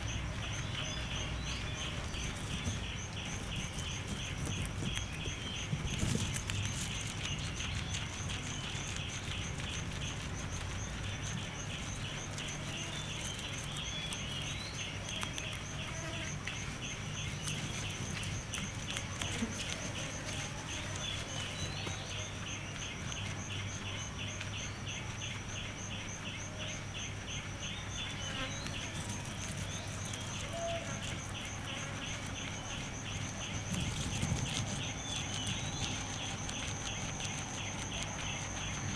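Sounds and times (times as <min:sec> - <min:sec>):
guinea pig chewing grass: 0:00.0 - 0:38.9
insects chirping: 0:00.0 - 0:38.9.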